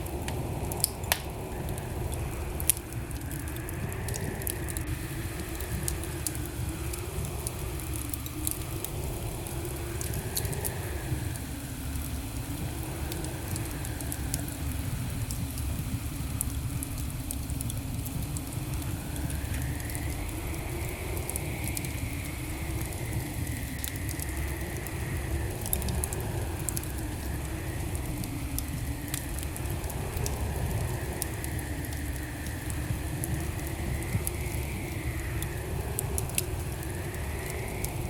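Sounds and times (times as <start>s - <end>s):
faint wavering hum and whistle: 0.0s - 38.0s
wood fire crackling: 0.0s - 38.0s.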